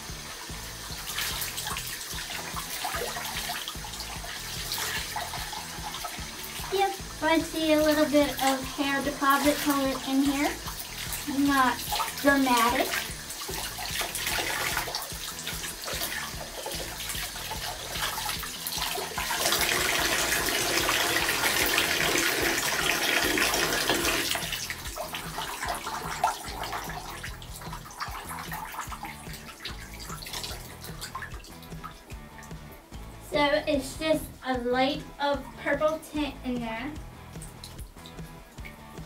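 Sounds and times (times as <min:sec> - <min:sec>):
faucet water splashing: 0:00.0 - 0:39.0.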